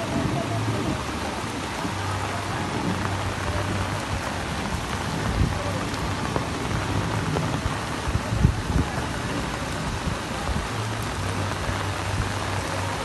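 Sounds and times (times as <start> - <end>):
rain on flooded street: 0.0 - 13.0.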